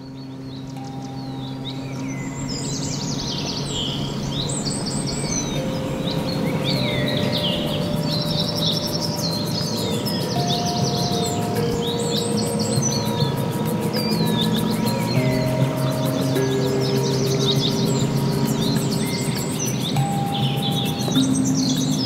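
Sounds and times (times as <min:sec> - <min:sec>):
faint hum: 0:00.0 - 0:22.0
songbirds chirping and trilling: 0:00.0 - 0:22.0
steady rushing noise: 0:00.0 - 0:22.0.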